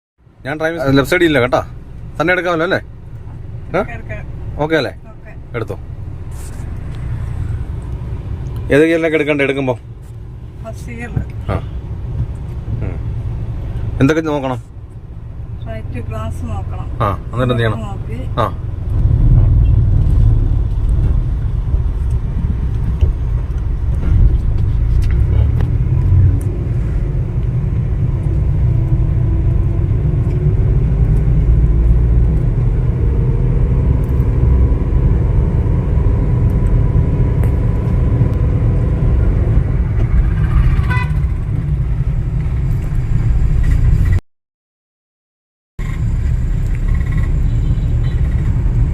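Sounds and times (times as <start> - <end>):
car engine and road noise: 0.2 - 44.2, 45.8 - 48.9.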